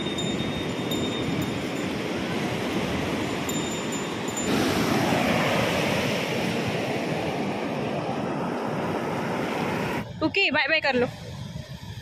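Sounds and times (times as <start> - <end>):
surf breaking on beach: 0.0 - 10.0.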